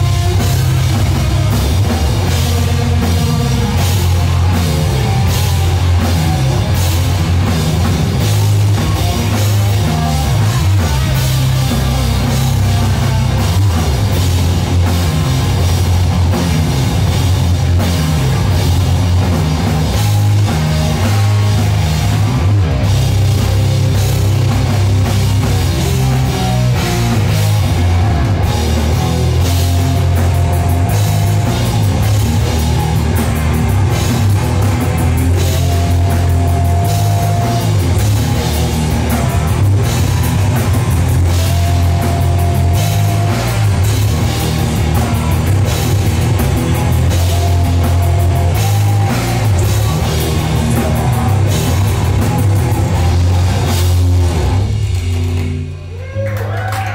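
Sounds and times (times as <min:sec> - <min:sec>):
heavy rock band playing: 0:00.0 - 0:56.9.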